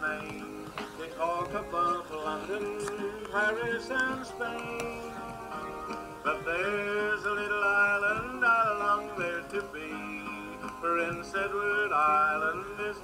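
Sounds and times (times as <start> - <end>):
guitar: 0.0 - 13.0
man singing: 0.0 - 13.0.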